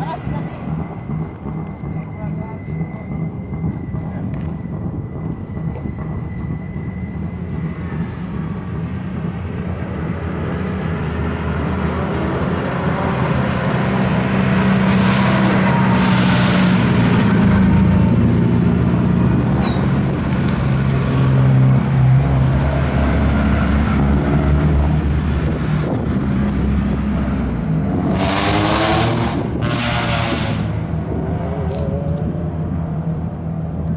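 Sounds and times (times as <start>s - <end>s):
race car engine passing at full throttle: 6.4s - 33.9s.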